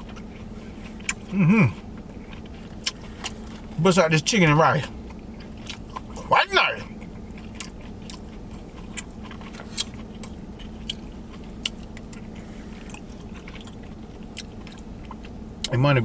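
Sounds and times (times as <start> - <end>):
person chewing food: 0.0 - 3.9, 4.5 - 15.7
steady low hum: 0.0 - 16.0.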